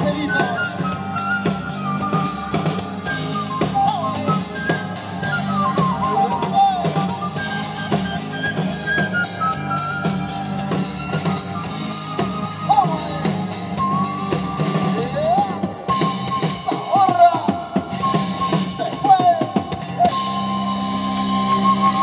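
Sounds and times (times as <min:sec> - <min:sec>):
drum kit and congas: 0:00.0 - 0:22.0
guitar and bass: 0:00.0 - 0:22.0
sliding lead melody: 0:00.0 - 0:22.0.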